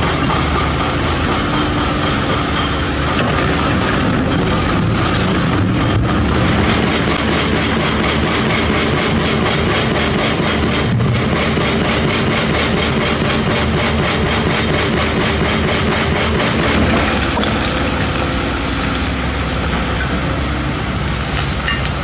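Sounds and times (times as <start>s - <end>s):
heavy machinery diesel engines: 0.0s - 22.0s.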